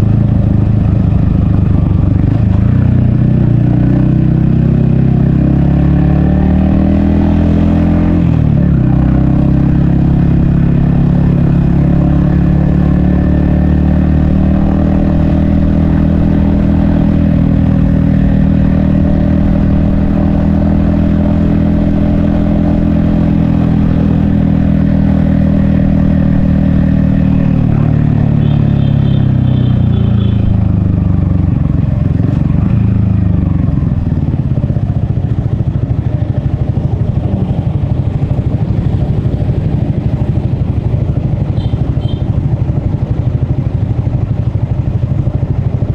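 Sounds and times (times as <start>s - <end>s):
motorcycle engine and exhaust: 0.0s - 45.9s.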